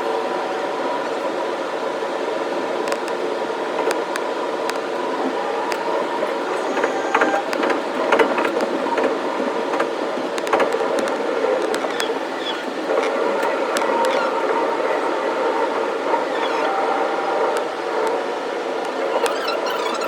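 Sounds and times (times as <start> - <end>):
train running noise with hum: 0.0 - 20.0
wheels clicking on rails: 2.6 - 20.0.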